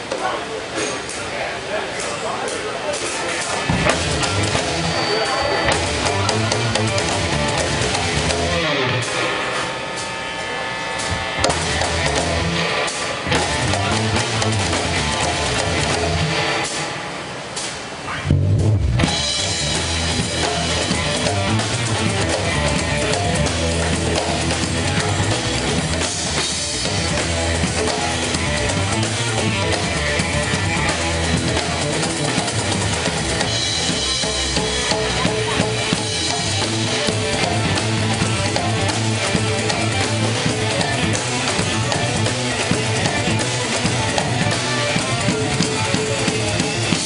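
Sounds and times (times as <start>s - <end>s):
drum kit: 2.5s - 47.0s
electric guitar: 3.4s - 47.0s
electric bass: 3.6s - 47.0s.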